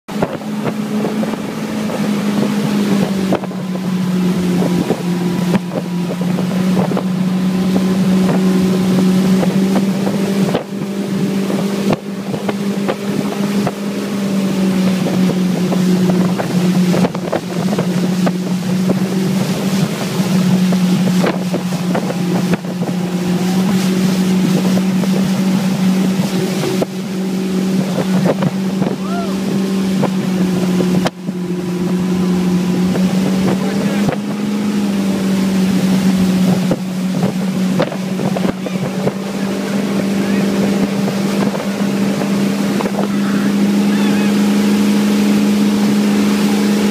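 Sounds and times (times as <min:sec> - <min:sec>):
churning wake water: 0:00.1 - 0:46.9
motorboat engine drone: 0:00.1 - 0:46.9.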